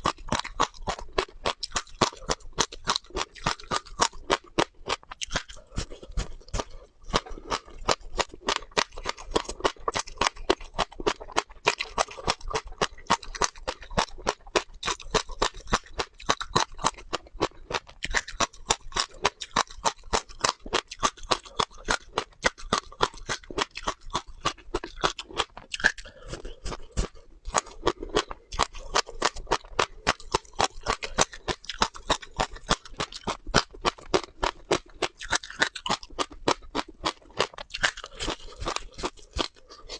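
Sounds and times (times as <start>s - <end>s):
crunching seeds being chewed: 0.0s - 39.9s.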